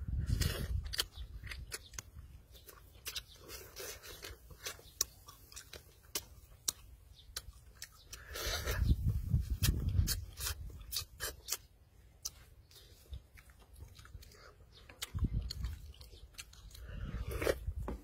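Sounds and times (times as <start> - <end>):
man chewing with wet smacking: 0.0 - 18.0.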